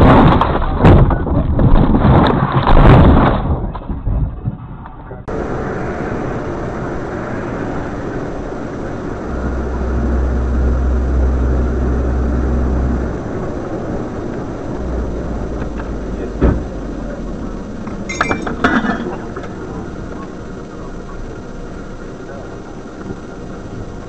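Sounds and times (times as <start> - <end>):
deep rumble: 0.0 - 24.0
road and engine noise: 3.6 - 24.0.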